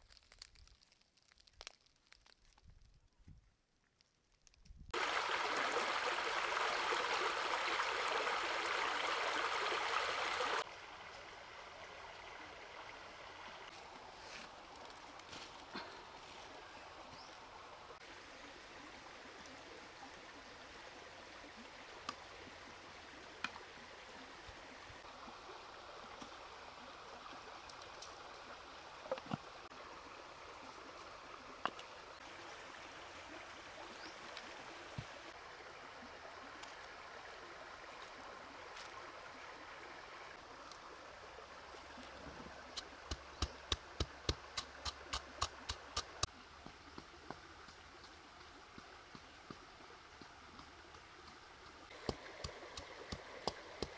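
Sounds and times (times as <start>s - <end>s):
shallow stream running: 4.9s - 53.9s.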